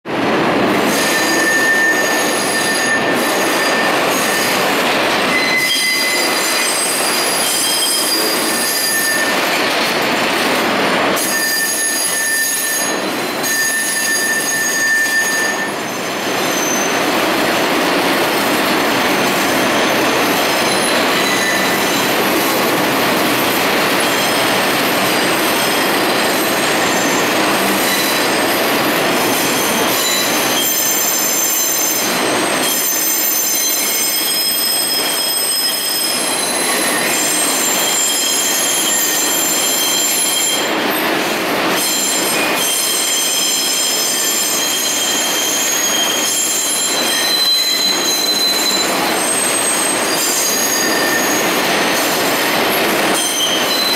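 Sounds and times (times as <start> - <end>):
train wheels rumbling on track: 0.1 - 53.9
train wheels squealing: 0.7 - 10.5, 11.1 - 53.9.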